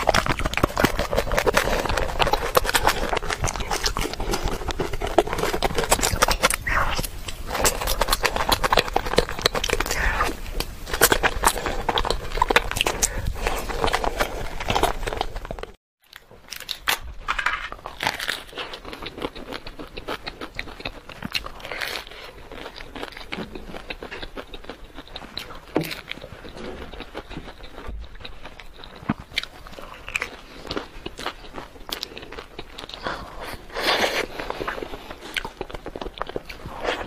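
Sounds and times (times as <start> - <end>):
chewing chocolate crunches: 0.0 - 37.0.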